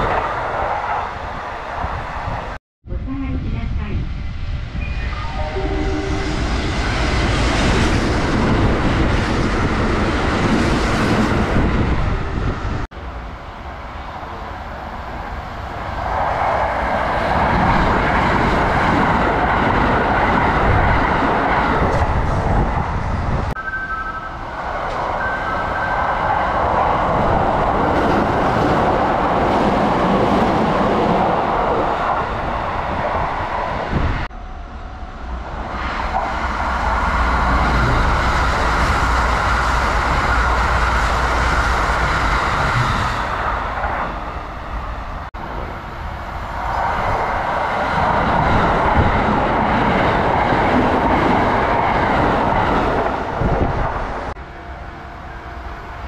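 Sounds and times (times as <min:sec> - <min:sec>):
electric trains passing at speed: 0:00.0 - 0:56.0.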